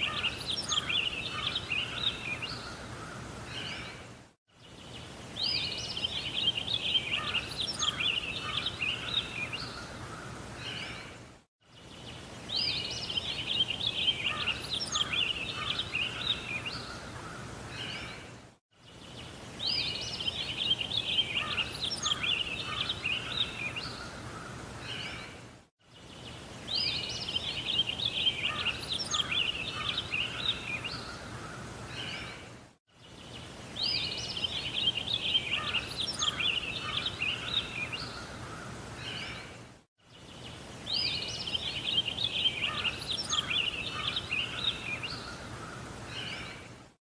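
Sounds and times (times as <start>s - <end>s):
songbird chirping and warbling: 0.0s - 46.8s
outdoor background noise: 0.0s - 47.0s.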